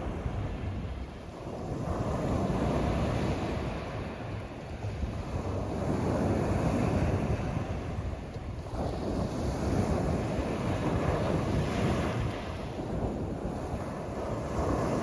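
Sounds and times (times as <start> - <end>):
sea surf washing on shore: 0.0 - 15.0
wind rumble on microphone: 0.0 - 15.0.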